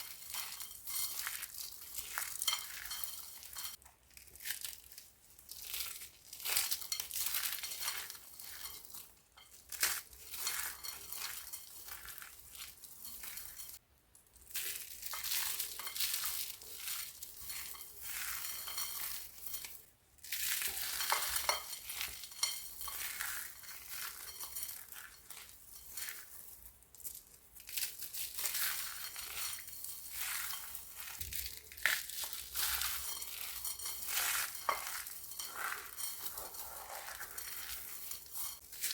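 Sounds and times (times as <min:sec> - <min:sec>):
dry soap crunching: 0:00.0 - 0:38.9.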